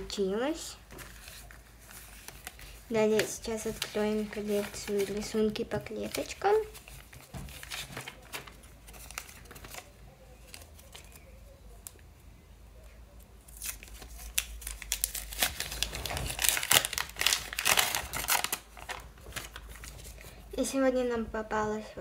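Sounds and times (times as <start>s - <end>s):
paper and tape crinkling and tearing: 0.9s - 12.0s, 13.4s - 20.3s.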